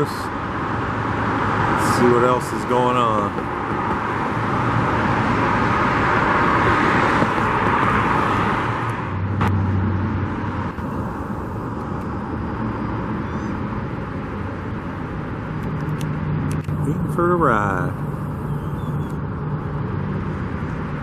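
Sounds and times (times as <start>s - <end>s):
traffic hum: 0.0s - 21.0s.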